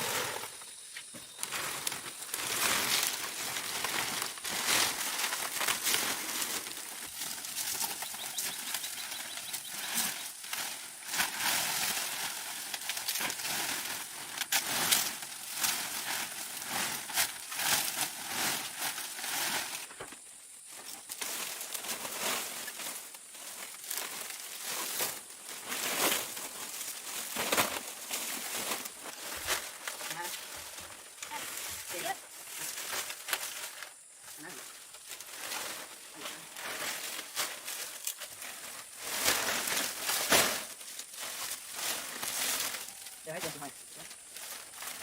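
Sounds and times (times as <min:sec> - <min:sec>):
crinkling and rustling material: 0:00.0 - 0:45.0.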